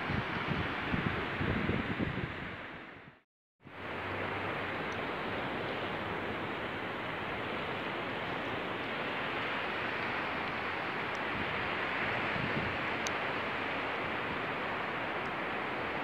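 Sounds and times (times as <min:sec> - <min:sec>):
sea surf washing on shore: 0:00.0 - 0:16.0.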